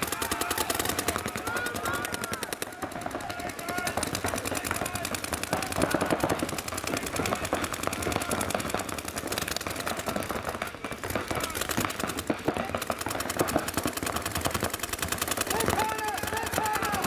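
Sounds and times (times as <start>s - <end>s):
paintball markers firing rapidly: 0.0s - 17.0s.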